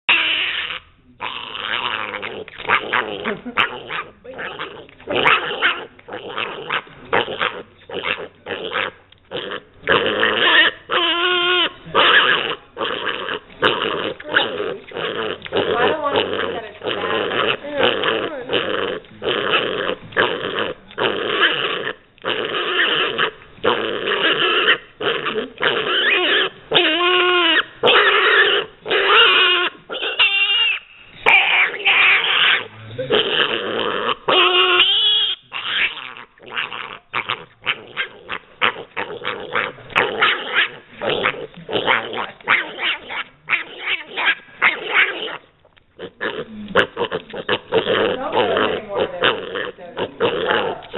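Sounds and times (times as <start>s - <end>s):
pig squealing and growling: 0.1s - 50.9s.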